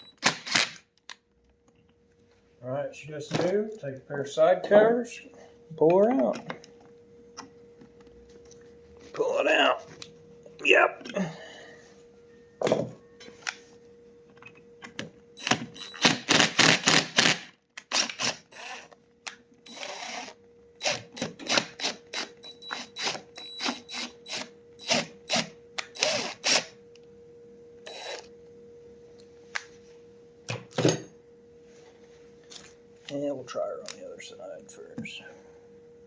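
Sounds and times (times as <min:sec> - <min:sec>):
steady hum: 0:01.6 - 0:36.0.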